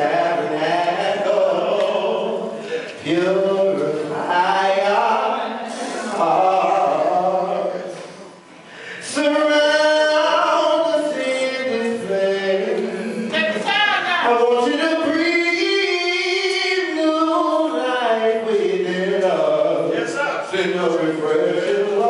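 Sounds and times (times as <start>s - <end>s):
man singing gospel song: 0.0s - 22.0s.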